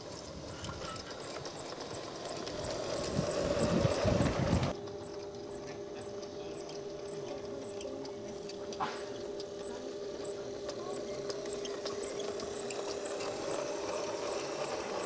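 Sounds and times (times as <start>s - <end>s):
model train rumbling: 0.0s - 15.0s
motor hum: 0.0s - 15.0s
faint high ticks: 0.6s - 15.0s.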